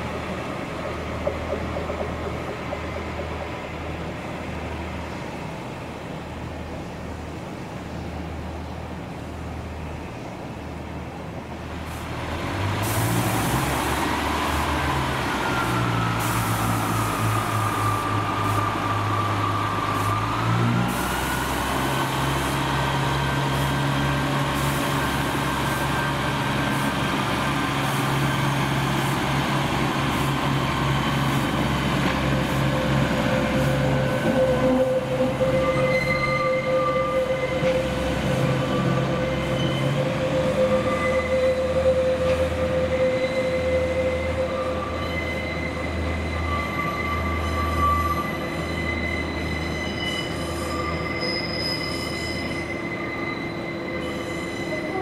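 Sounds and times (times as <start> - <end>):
train engine drone with whine: 0.0 - 55.0.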